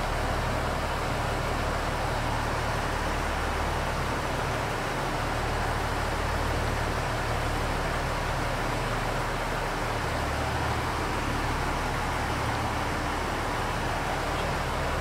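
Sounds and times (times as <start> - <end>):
diesel train idling hum and hiss: 0.0 - 15.0.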